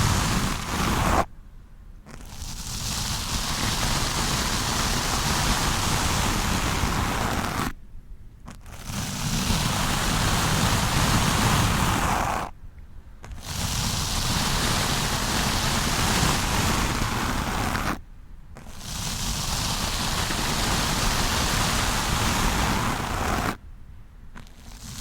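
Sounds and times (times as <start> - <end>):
brush rubbing over microphone: 0.0 - 1.3, 2.1 - 7.8, 8.5 - 12.5, 13.2 - 18.0, 18.6 - 23.6, 24.4 - 25.0.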